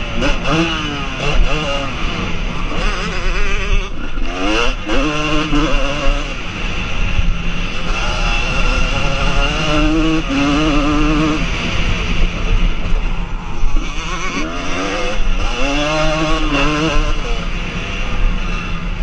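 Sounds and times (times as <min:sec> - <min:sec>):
motorbike engines revving: 0:00.0 - 0:19.0.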